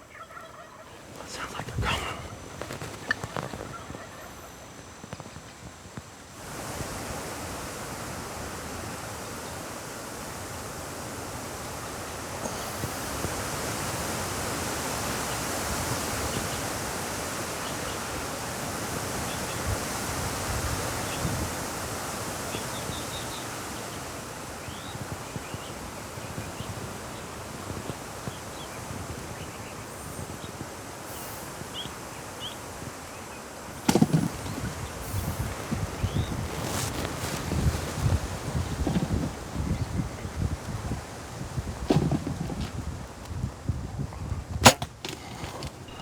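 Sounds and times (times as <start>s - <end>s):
wind hiss: 0.0s - 46.0s.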